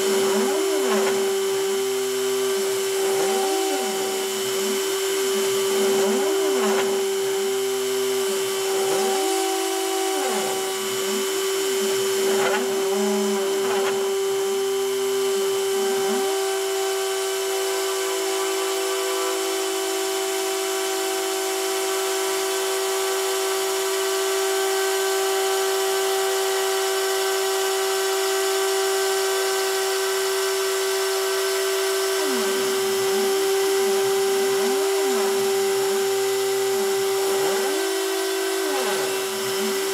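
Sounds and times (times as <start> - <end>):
stepper motors whining: 0.0 - 22.1, 28.3 - 39.9
rotary tool spindle whining: 0.0 - 39.9.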